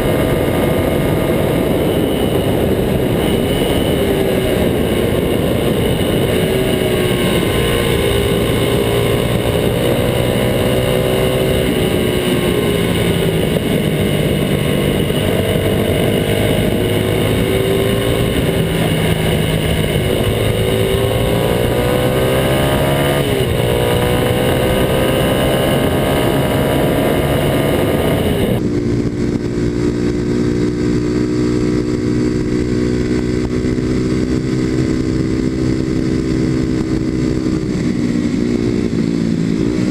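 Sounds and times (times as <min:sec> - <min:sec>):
motorcycle engine revving: 0:00.0 - 0:39.9
wind rush on camera: 0:00.0 - 0:39.9.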